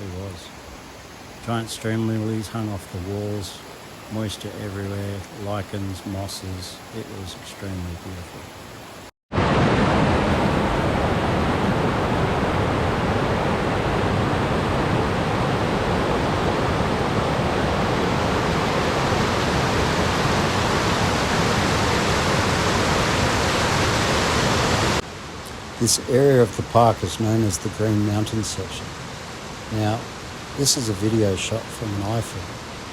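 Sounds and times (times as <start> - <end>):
cascading water rushing: 0.0 - 32.9.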